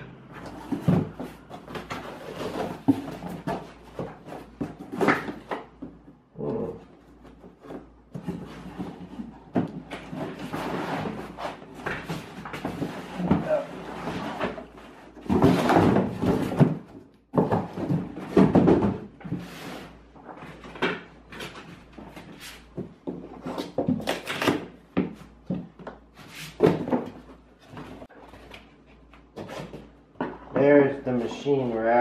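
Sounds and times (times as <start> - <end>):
foam and cardboard rustling: 0.4 - 6.0, 6.8 - 30.0.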